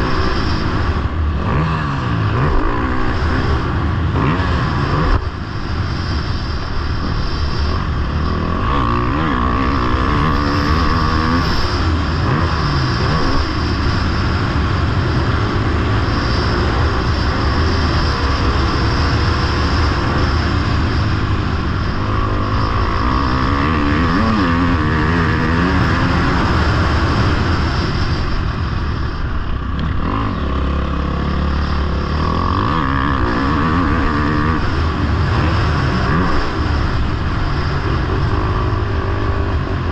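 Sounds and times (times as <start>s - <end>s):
heavy low rumble: 0.0s - 39.9s
motorbike engine revving: 0.0s - 39.9s.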